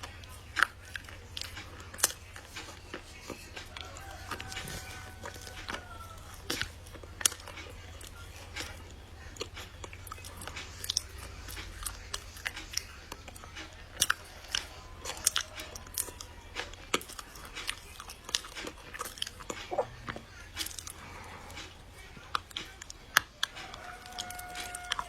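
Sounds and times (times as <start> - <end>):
chocolate crunching and snapping: 0.0 - 25.0
steady low hum: 0.0 - 25.0.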